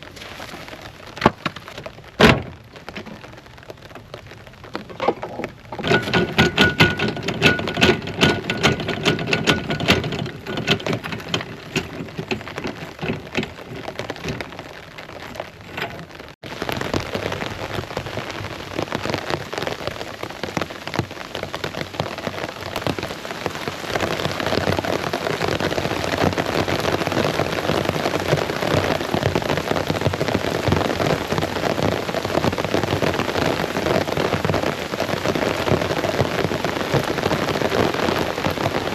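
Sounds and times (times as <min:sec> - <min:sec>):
raindrops pattering on a surface: 0:00.0 - 0:38.9
steady rain downpour: 0:00.0 - 0:38.9.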